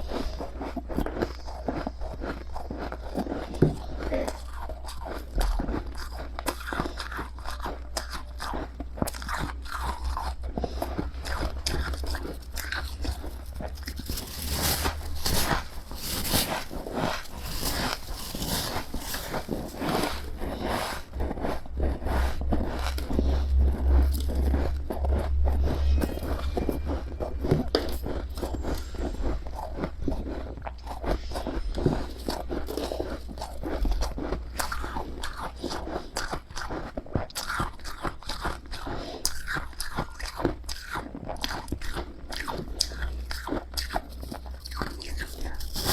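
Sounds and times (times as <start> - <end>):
crunching and chewing frost: 0.0 - 45.9.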